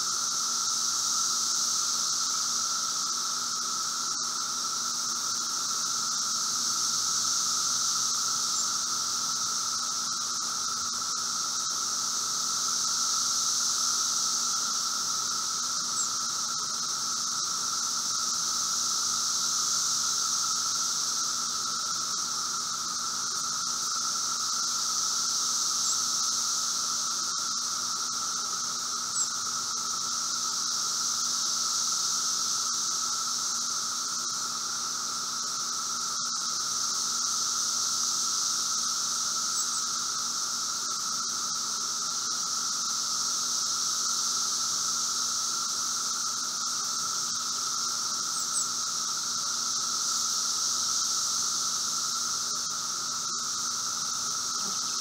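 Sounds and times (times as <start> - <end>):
cicadas droning chorus: 0.0 - 55.0.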